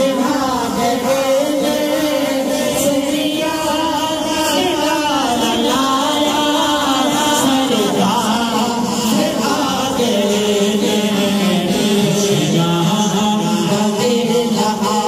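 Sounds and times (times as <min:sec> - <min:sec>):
crowd chanting: 0:00.0 - 0:15.0
men singing a hymn: 0:00.0 - 0:15.0.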